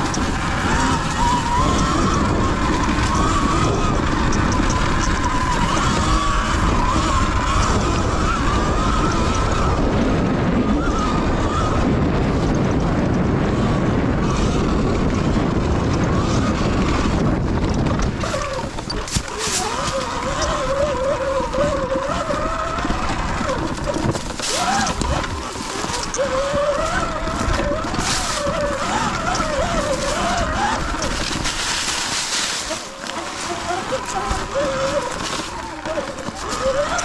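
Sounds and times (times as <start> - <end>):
electric motor whine: 0.0 - 37.0
wind on microphone: 0.0 - 37.0.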